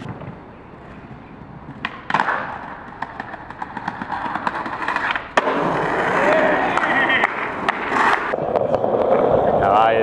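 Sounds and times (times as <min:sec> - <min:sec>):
skateboard wheels rolling on stone: 0:00.0 - 0:10.0.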